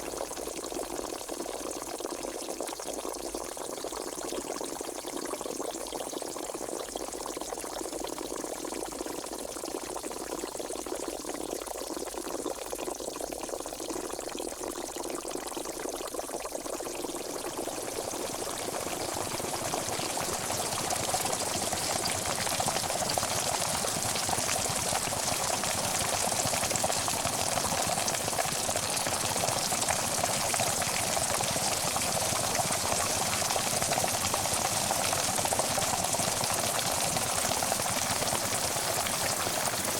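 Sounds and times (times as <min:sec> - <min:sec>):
water bubbling at a boil: 0:00.0 - 0:39.9.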